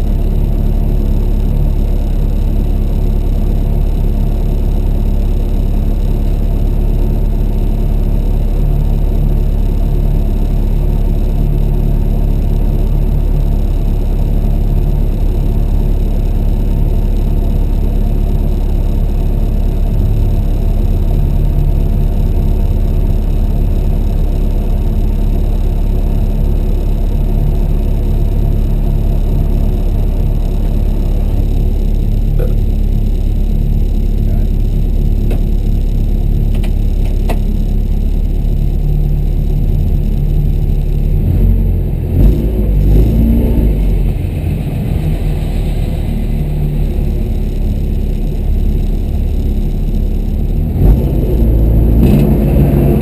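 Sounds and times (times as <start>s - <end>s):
car engine rumble from inside cabin: 0.0s - 53.0s.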